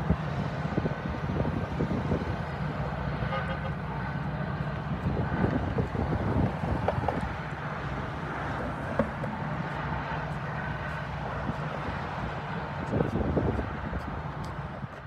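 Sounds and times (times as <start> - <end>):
heavy engine rumbling: 0.0 - 15.0.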